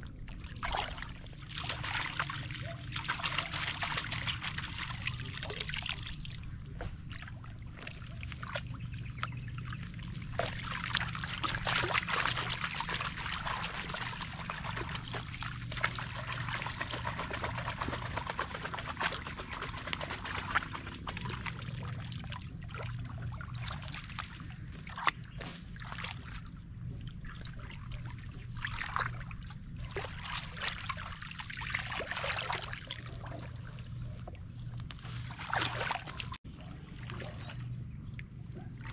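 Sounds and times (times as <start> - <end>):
low steady hum: 0.0 - 38.9
water trickling and splashing: 0.0 - 38.9
small splashes and drips: 0.1 - 38.9.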